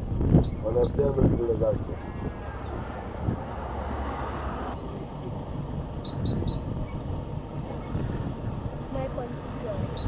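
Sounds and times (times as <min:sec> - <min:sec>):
van engine and road rumble: 0:00.0 - 0:10.0
wind buffeting microphone: 0:00.0 - 0:10.0.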